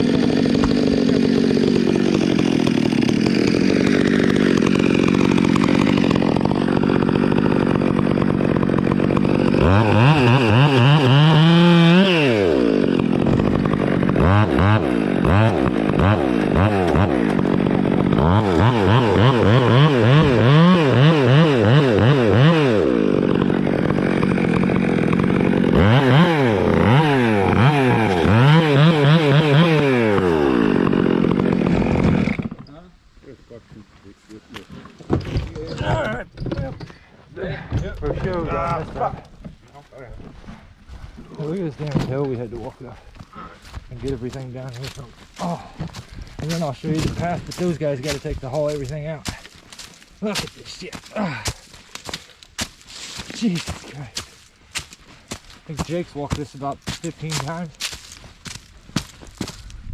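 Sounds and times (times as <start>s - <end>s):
chainsaw engine revving: 0.0s - 32.8s, 41.3s - 59.7s.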